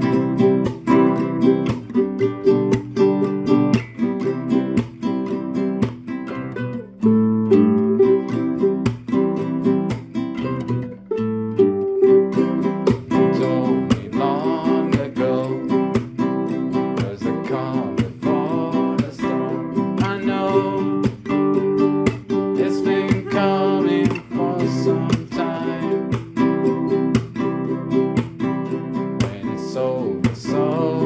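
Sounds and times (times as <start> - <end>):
acoustic guitar strumming: 0.0 - 31.0
person singing: 0.0 - 31.0.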